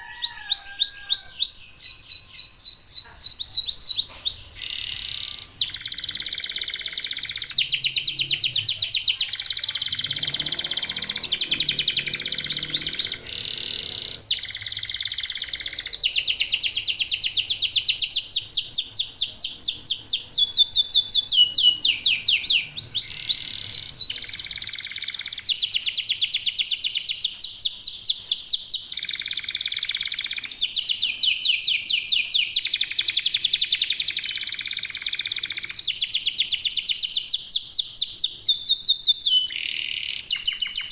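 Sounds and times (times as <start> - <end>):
canaries trilling: 0.0 - 40.9.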